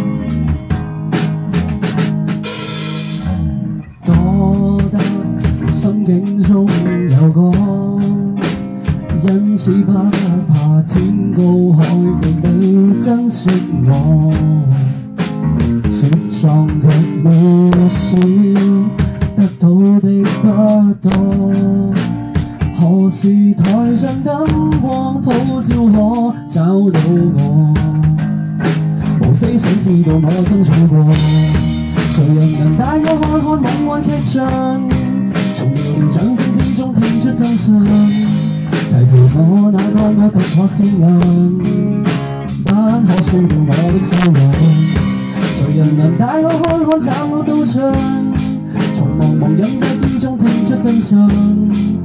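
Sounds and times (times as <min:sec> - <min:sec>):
bass guitar: 0:00.0 - 0:52.0
drum kit: 0:00.0 - 0:52.0
guitar: 0:00.0 - 0:52.0
man singing: 0:03.0 - 0:52.0.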